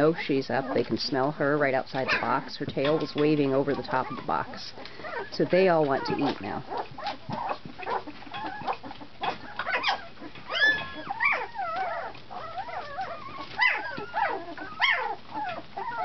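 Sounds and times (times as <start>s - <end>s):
puppies whining and squealing: 0.0s - 16.0s.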